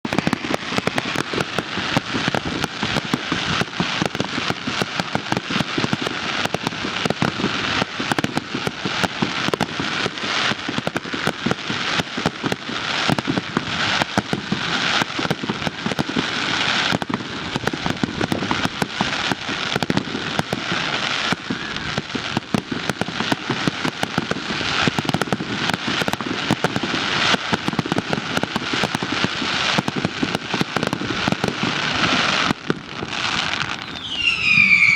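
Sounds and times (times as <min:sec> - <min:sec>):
fireworks crackling: 0:00.0 - 0:34.9.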